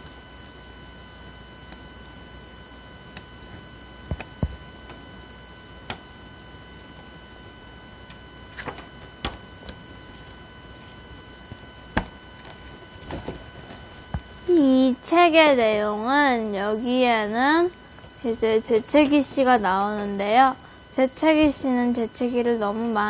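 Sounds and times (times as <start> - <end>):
faint high-pitched electrical whine: 0.0 - 23.0.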